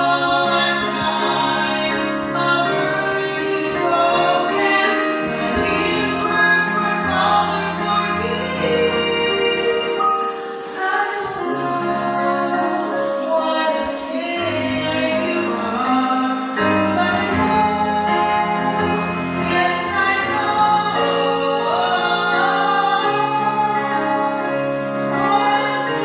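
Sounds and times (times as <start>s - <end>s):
musical accompaniment with low notes: 0.0s - 26.0s
two women singing a duet: 0.0s - 26.0s.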